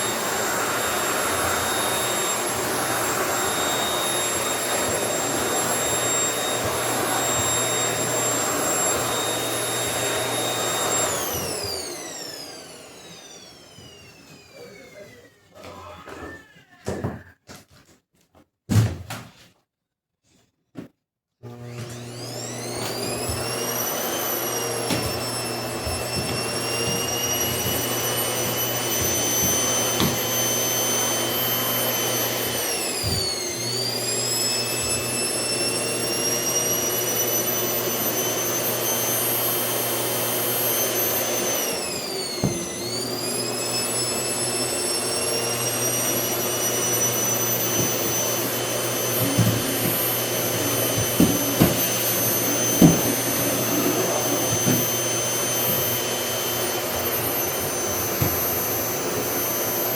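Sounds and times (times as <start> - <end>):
vacuum cleaner motor whine: 0.0 - 17.2, 21.4 - 59.9.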